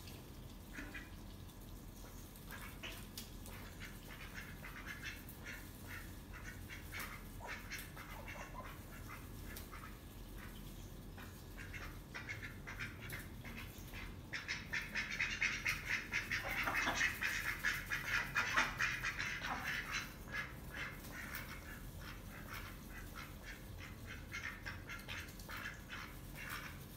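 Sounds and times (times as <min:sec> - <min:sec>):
ducks quacking: 0:00.7 - 0:01.2, 0:02.4 - 0:26.9.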